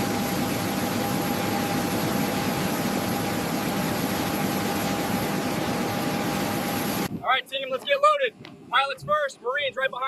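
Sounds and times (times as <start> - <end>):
aircraft turbine engines roaring: 0.0 - 10.0.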